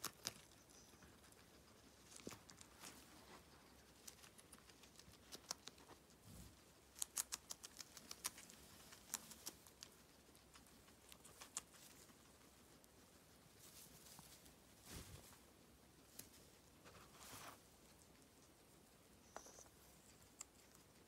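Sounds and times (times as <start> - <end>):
guinea pig crunching lettuce: 0.0 - 21.0.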